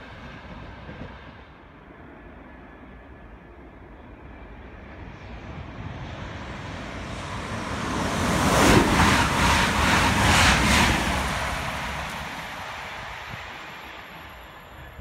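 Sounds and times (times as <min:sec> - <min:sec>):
train passing at high speed: 0:00.0 - 0:15.0
wheels on rail and air rush: 0:00.0 - 0:15.0.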